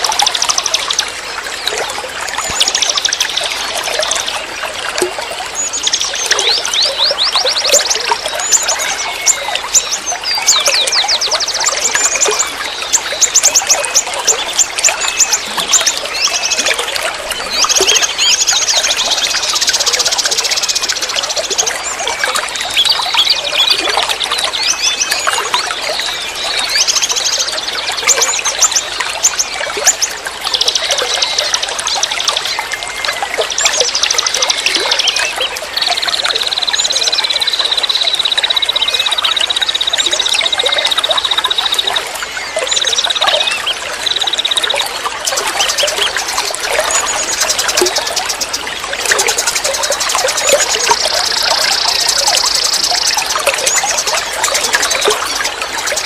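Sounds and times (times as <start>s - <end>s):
river flowing: 0.0s - 56.0s
songbirds chirping and trilling: 0.0s - 56.0s.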